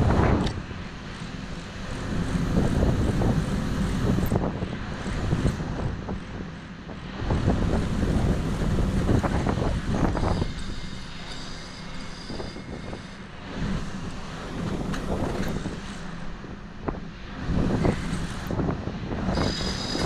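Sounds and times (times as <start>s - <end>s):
wind buffeting microphone: 0.0s - 11.4s, 12.0s - 20.0s
sea washing along ship: 0.0s - 20.0s.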